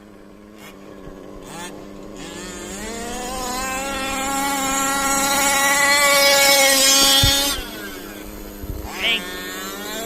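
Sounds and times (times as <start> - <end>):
two-stroke rc car engine buzzing: 0.0 - 10.0.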